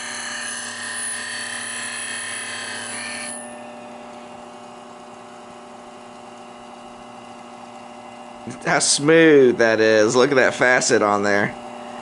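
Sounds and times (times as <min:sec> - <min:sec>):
bench grinder humming: 0:00.0 - 0:12.0.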